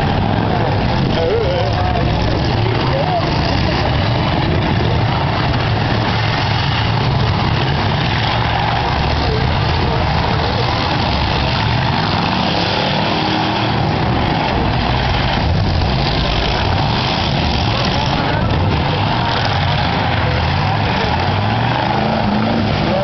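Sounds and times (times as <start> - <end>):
car engines running loud: 0.0 - 23.0
people's voices: 0.0 - 23.0.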